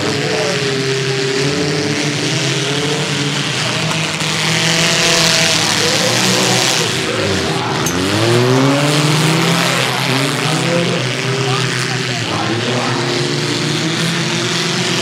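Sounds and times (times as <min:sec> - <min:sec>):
car engines revving: 0:00.0 - 0:15.0
rush of noise: 0:00.0 - 0:15.0.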